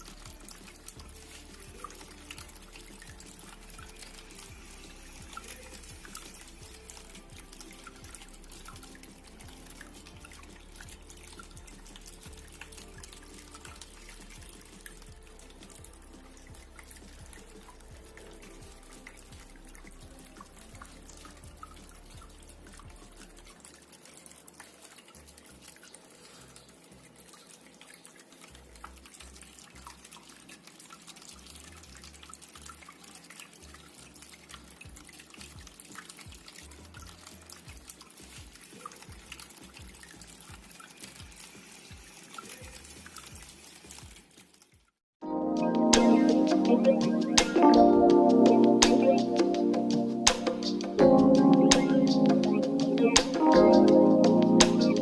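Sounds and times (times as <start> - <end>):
tabletop fountain water trickling: 0.0 - 55.0.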